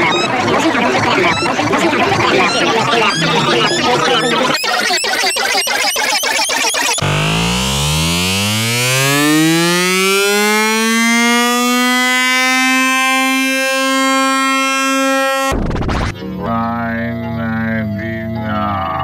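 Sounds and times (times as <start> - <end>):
electronic tone gliding up: 0.0 - 18.2
wavering pitched sound: 0.0 - 19.0.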